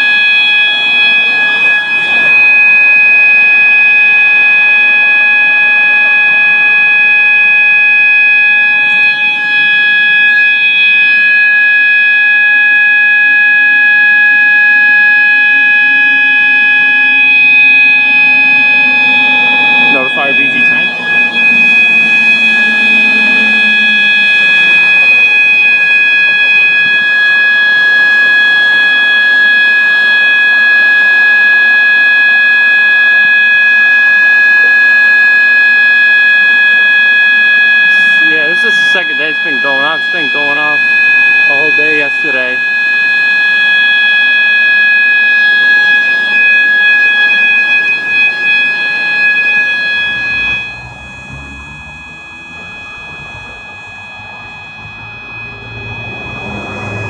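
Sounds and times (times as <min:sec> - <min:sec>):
fire alarm horn steady tone: 0:00.0 - 0:57.0.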